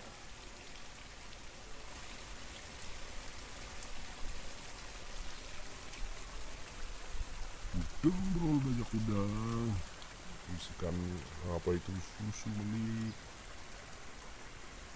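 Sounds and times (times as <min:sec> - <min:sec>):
running water hiss: 0:00.0 - 0:14.9.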